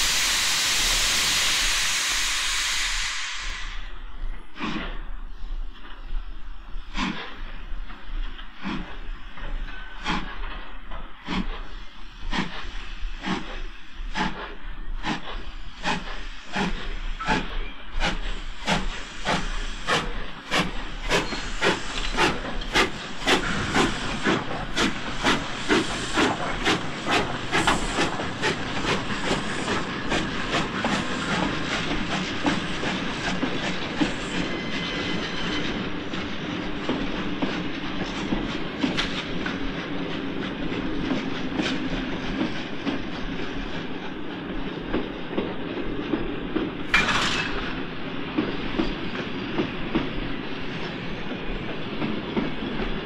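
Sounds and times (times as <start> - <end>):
steam locomotive exhaust beats: 0.0 - 53.0
train wheels rolling: 0.0 - 53.0.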